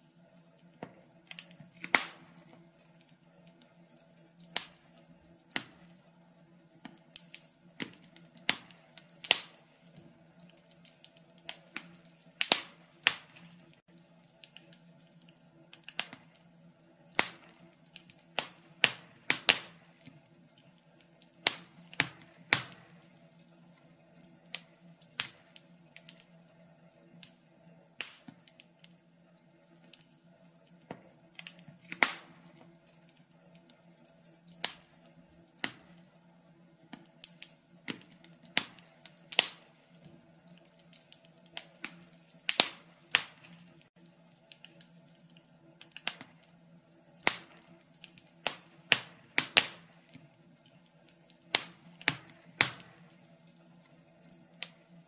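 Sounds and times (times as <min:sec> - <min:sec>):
logs crackling in fireplace: 0:00.0 - 0:55.0.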